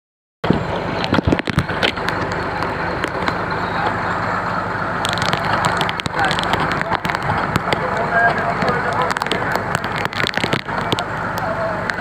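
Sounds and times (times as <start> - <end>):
engine running with low throb: 0.4 - 12.0
knocks and clatter: 0.4 - 12.0.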